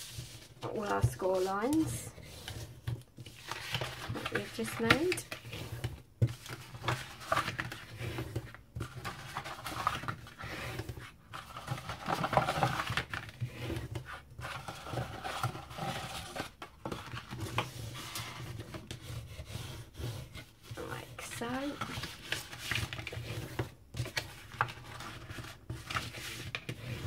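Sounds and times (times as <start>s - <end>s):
card rustling and scraping: 0.0s - 27.0s.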